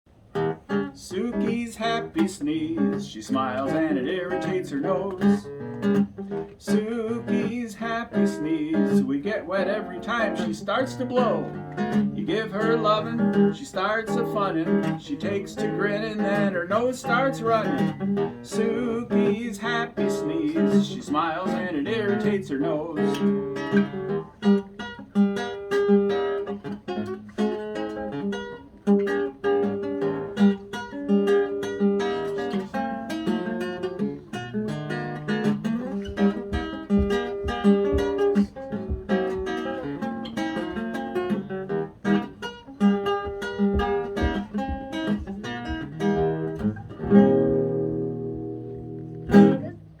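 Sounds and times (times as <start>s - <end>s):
acoustic guitar playing: 0.1s - 50.0s.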